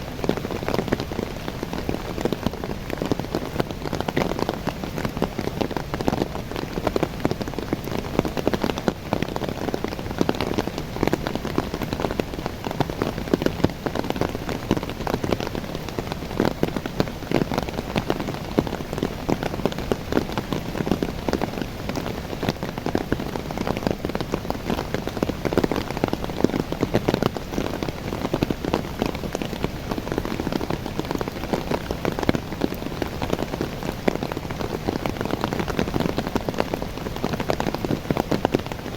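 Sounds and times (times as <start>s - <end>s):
rain pattering on leaves: 0.0s - 38.9s.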